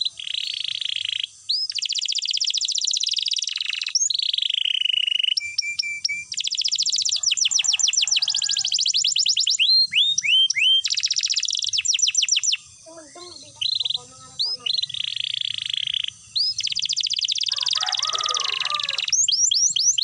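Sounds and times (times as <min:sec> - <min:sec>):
canary singing trills: 0:00.0 - 0:20.0.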